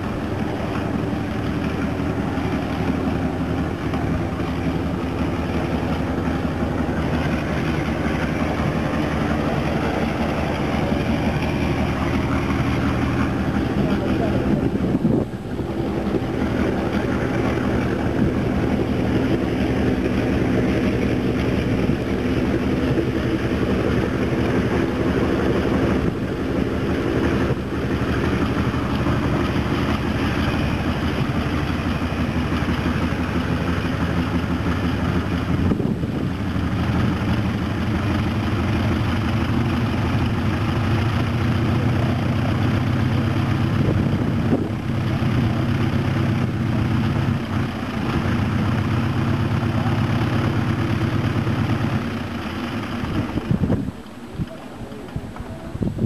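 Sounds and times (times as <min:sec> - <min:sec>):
radial aircraft engine running: 0:00.0 - 0:56.0.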